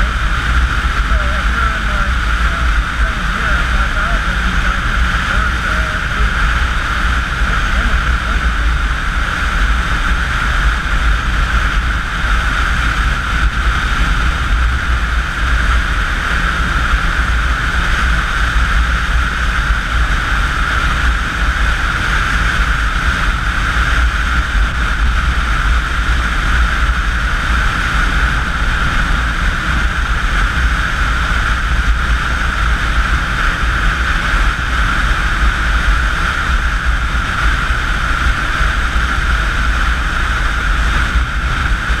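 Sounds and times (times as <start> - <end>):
motorcycle engine cruising: 0.0 - 42.0
road noise: 0.0 - 42.0
wind rushing on microphone: 0.0 - 42.0.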